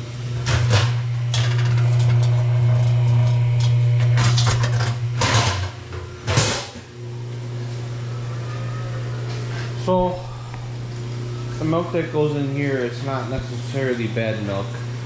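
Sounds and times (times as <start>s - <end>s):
machinery humming steadily: 0.0s - 15.0s.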